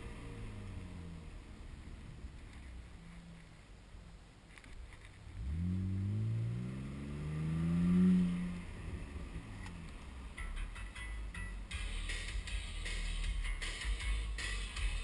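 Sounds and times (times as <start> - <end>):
car engine accelerating: 0.0 - 4.2, 5.0 - 15.0.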